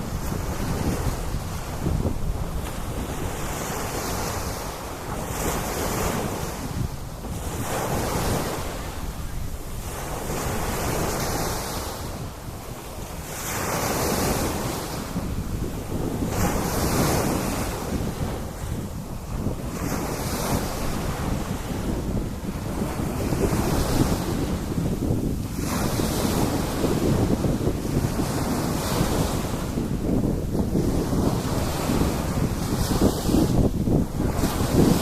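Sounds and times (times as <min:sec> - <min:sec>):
sea waves breaking on beach: 0:00.0 - 0:35.0
wind buffeting microphone: 0:00.0 - 0:35.0.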